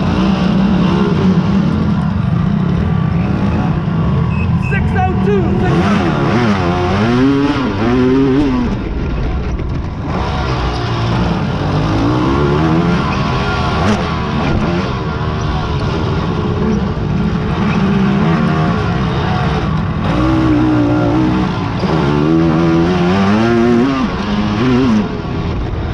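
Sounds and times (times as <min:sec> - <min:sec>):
quad engines revving: 0:00.0 - 0:25.9.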